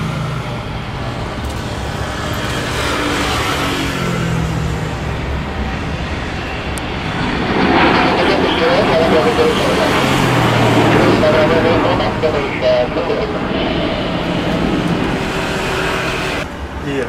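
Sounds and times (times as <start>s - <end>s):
jet engine roar at takeoff: 0.0s - 17.0s.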